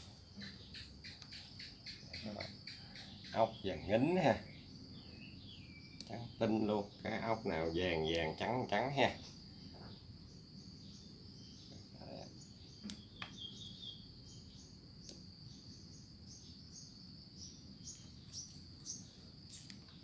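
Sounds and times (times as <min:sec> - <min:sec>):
insect chirps: 0:00.0 - 0:20.0
insect trilling: 0:00.0 - 0:20.0.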